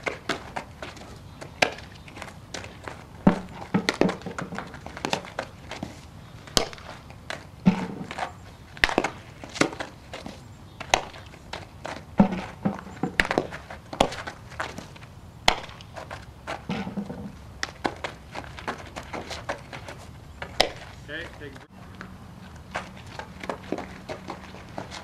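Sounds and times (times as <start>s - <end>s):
balls smacking into leather gloves: 0.0s - 25.0s
shoes scuffing on dirt: 0.0s - 25.0s.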